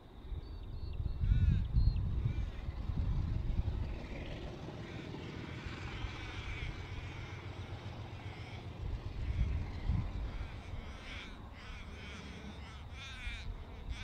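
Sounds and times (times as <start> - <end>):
distant locomotive engine rumble: 0.0 - 14.0.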